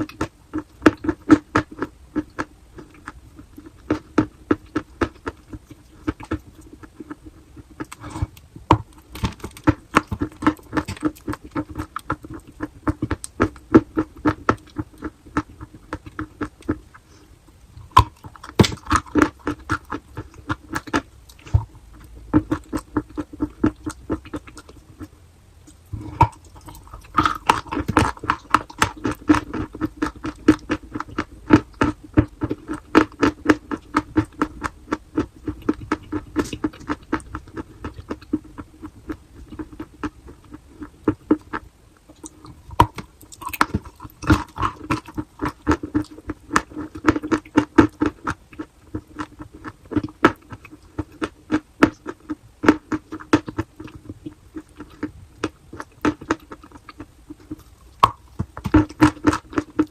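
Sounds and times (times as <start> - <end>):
chewing chalk crunches: 0.0 - 25.1, 25.7 - 59.9.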